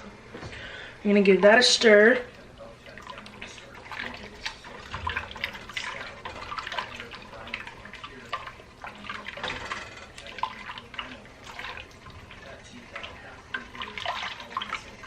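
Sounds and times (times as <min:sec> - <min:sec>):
liquid sloshing in pot: 0:00.5 - 0:15.0.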